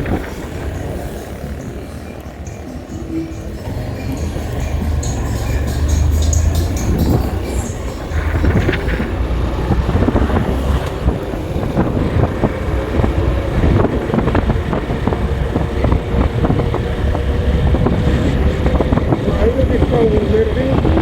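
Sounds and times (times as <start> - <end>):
vehicle rumble on road: 0.0 - 21.0
wind buffeting microphone: 0.0 - 21.0.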